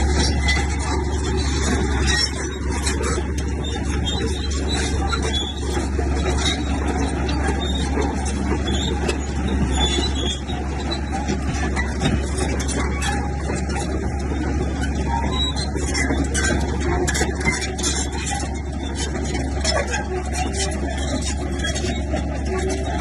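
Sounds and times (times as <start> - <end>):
bulldozer diesel engine running: 0.0 - 23.0
metallic rattle of tracks: 0.0 - 23.0.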